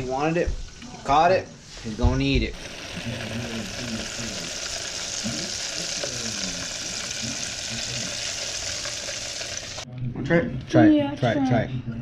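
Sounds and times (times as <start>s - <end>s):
oil sizzling and bubbling: 0.0s - 9.9s.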